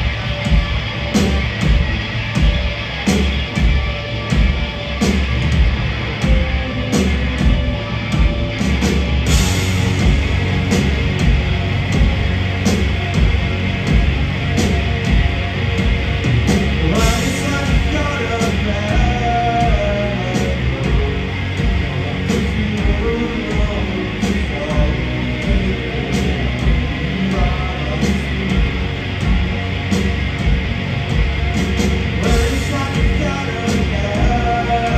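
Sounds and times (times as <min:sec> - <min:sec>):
punk rock band playing: 0:00.0 - 0:34.9.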